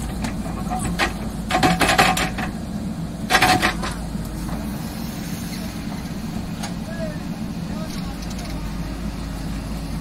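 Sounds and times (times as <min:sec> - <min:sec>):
backhoe diesel engine running: 0:00.0 - 0:10.0.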